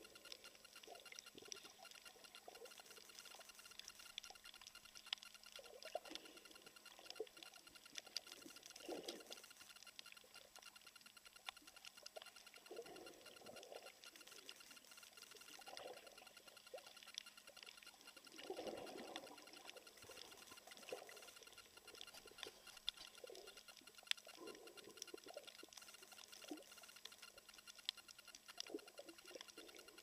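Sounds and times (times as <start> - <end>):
underwater clicks and crackles: 0.0 - 30.0.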